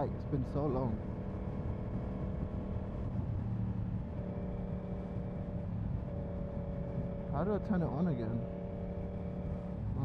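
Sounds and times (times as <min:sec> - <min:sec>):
road and wind noise: 0:00.0 - 0:10.0
motorcycle engine cruising: 0:00.9 - 0:10.0.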